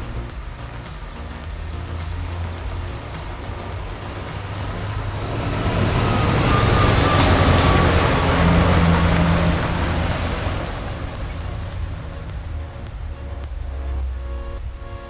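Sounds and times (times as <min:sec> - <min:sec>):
truck engine and tyre rumble: 0:00.0 - 0:15.0.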